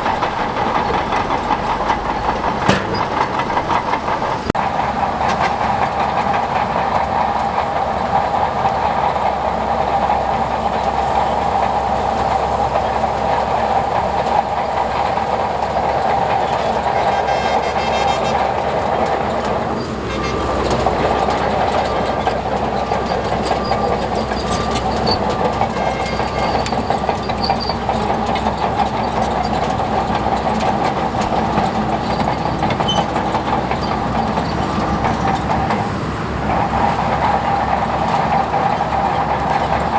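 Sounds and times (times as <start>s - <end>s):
diesel engine under load: 0.0s - 39.9s
steel tracks clanking: 0.0s - 39.9s.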